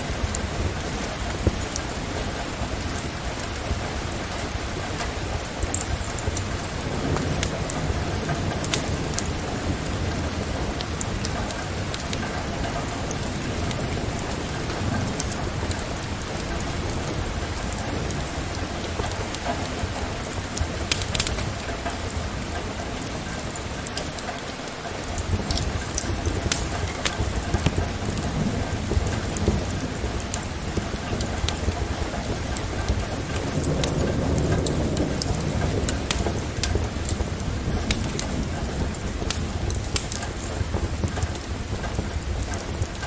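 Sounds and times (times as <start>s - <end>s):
steady rain falling: 0.0s - 43.0s
thunder rumbling: 0.0s - 43.0s
sharp clicks and crackles: 0.2s - 43.0s.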